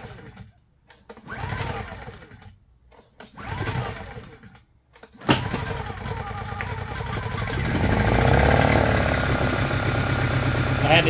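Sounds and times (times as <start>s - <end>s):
generator recoil starter cranking: 0.0s - 11.0s.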